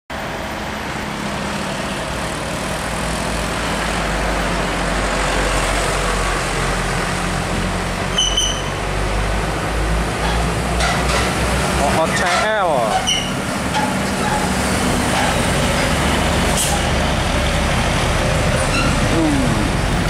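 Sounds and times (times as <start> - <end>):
diesel truck engine humming: 0.1 - 20.0
road noise: 0.1 - 20.0.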